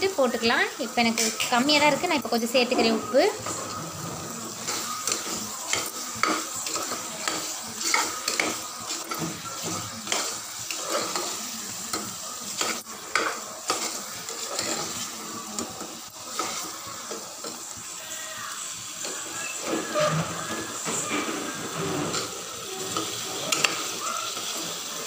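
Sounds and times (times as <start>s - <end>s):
food sizzling: 0.0s - 25.0s.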